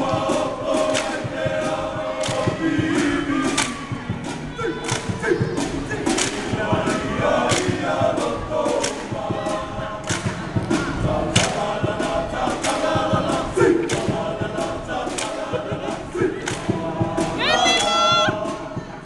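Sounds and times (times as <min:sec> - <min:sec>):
boys singing in chorus: 0:00.0 - 0:19.0
sharp percussion strikes: 0:00.0 - 0:19.0.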